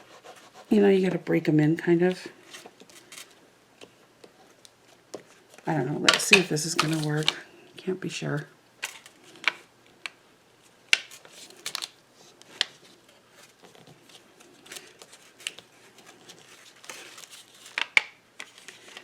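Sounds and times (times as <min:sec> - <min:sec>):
soft rustling of packaging: 0:02.0 - 0:07.6, 0:08.3 - 0:19.0.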